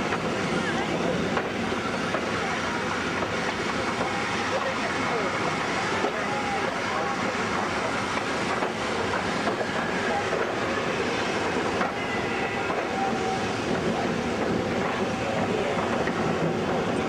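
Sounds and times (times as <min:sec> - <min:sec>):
train wheels rattling on rails: 0:00.0 - 0:17.0.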